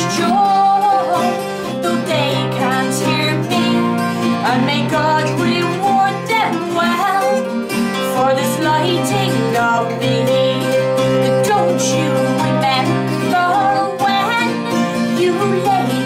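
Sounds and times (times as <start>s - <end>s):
acoustic guitars playing: 0.0s - 16.0s
woman singing folk melody: 0.0s - 16.0s.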